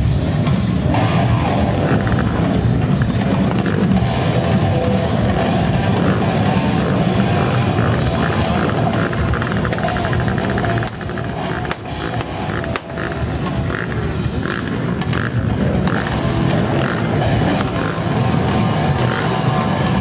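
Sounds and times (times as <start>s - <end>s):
live rock music: 0.0s - 20.0s.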